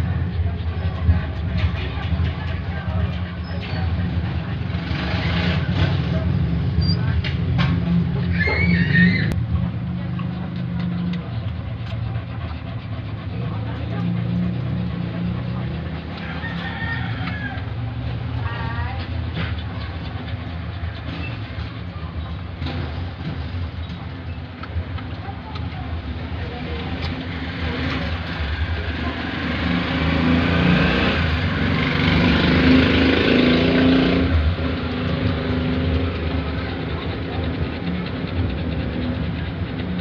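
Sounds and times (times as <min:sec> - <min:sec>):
vehicle passing: 0:00.0 - 0:40.0.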